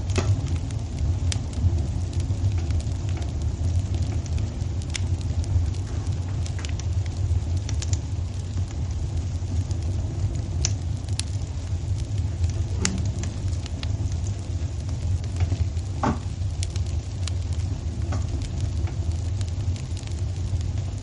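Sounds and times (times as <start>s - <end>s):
fire crackling and popping: 0.0s - 21.0s
fire low rumble: 0.0s - 21.0s.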